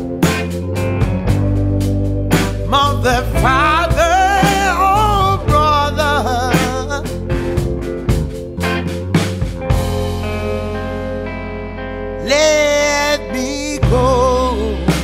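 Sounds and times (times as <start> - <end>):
lead guitar line with vibrato: 0.0 - 15.0
low bass notes: 0.0 - 15.0.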